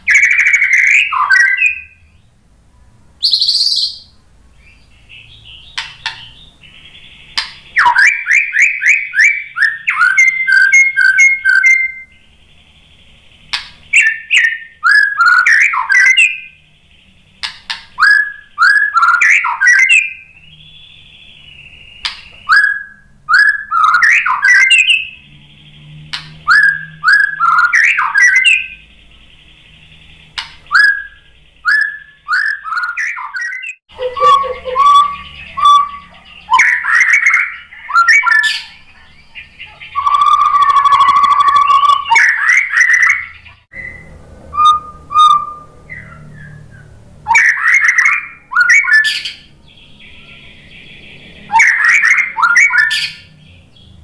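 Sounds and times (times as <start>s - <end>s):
bird singing whistled trills: 0.0s - 2.4s, 3.2s - 54.0s.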